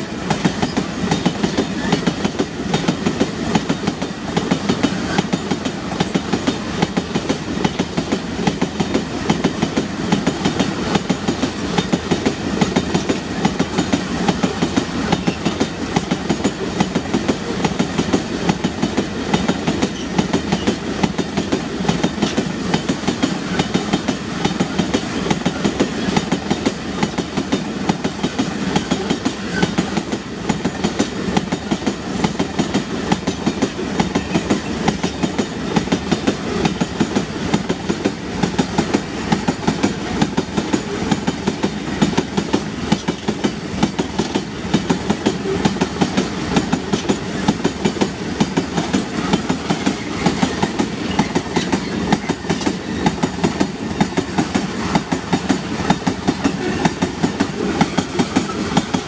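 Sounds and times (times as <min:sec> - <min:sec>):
steel wheels rumbling on rail: 0:00.0 - 0:59.0
clatter over rail joints: 0:00.3 - 0:59.0.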